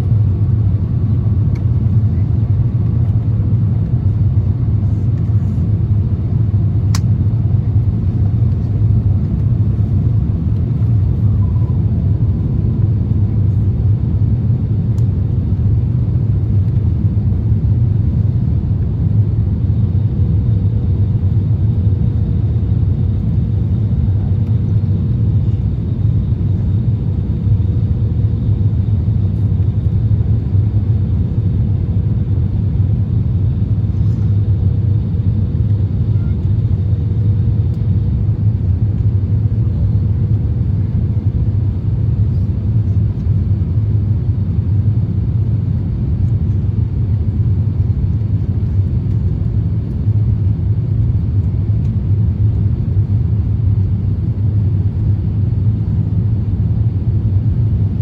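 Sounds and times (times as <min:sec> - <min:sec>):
aircraft cabin engine rumble: 0:00.0 - 0:58.0
faint steady whines: 0:00.0 - 0:58.0.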